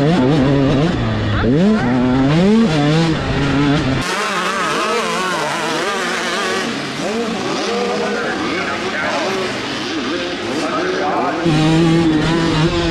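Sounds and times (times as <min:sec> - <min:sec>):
dirt bike engines revving: 0:00.0 - 0:12.9.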